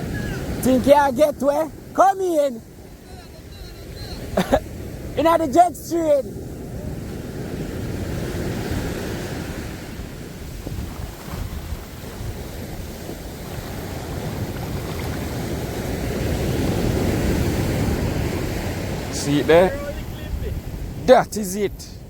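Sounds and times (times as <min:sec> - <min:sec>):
wind on microphone: 0:00.0 - 0:02.0, 0:02.6 - 0:22.0
sea surf washing in: 0:00.0 - 0:22.0.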